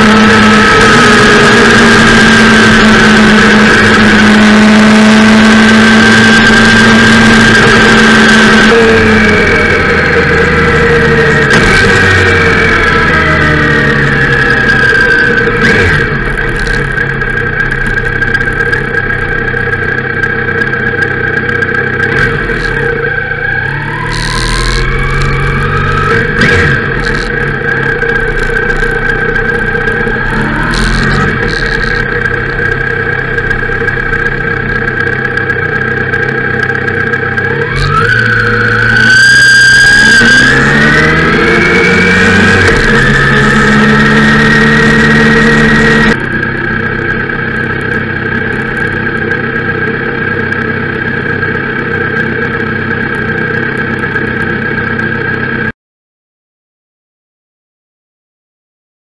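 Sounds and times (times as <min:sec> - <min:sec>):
motorcycle engine accelerating: 0:00.0 - 0:55.7.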